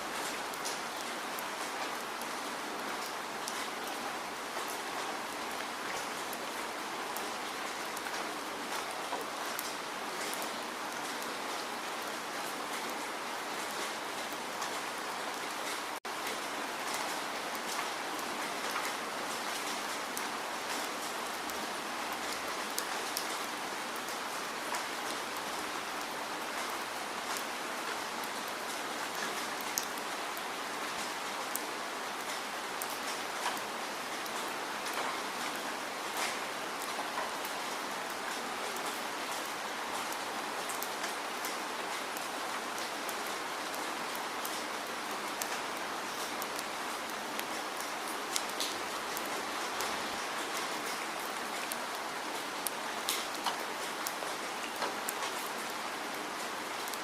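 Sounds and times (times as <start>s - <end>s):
rain falling: 0.0s - 57.0s
raindrops pattering on a surface: 0.0s - 57.0s.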